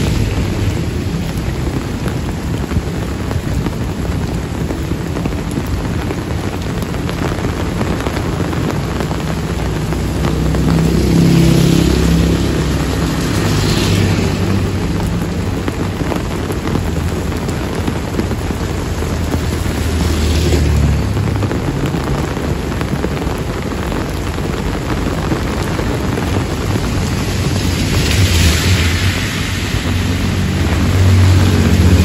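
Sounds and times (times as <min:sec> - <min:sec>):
heavy rain on wet road: 0:00.0 - 0:32.0
tyres hissing on wet road: 0:00.0 - 0:32.0.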